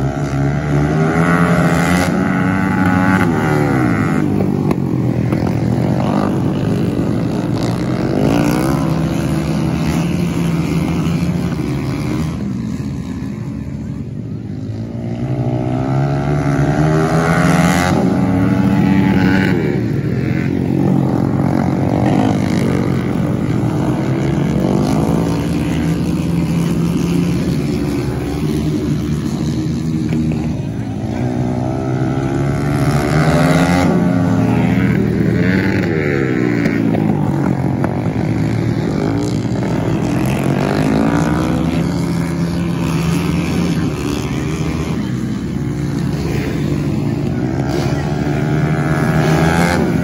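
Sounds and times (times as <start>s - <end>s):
racing motorcycles revving: 0.0s - 50.0s.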